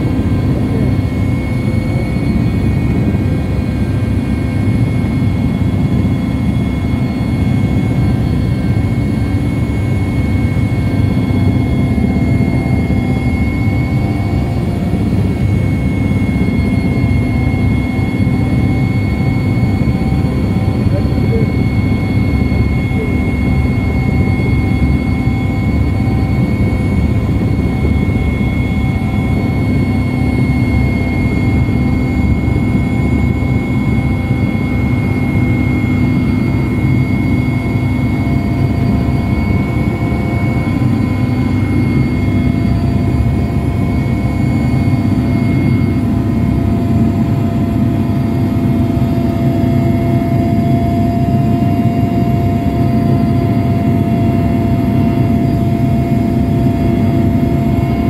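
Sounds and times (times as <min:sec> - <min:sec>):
helicopter engine and rotor drone: 0:00.0 - 0:58.0
high whine: 0:00.0 - 0:58.0.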